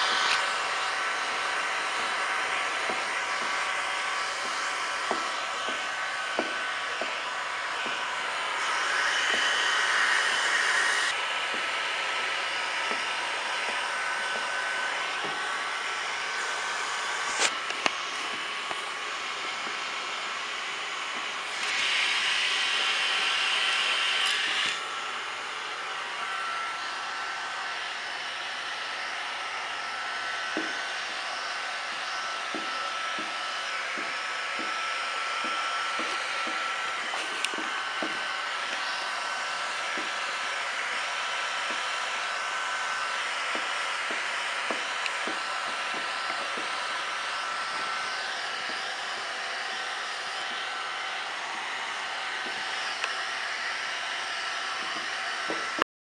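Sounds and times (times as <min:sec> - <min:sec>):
heat gun blowing with whine: 0:00.0 - 0:55.9.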